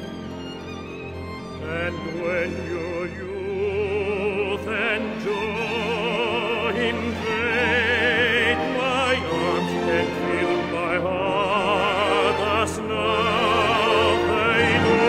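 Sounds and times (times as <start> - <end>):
operatic singing with orchestra: 0.0 - 15.0.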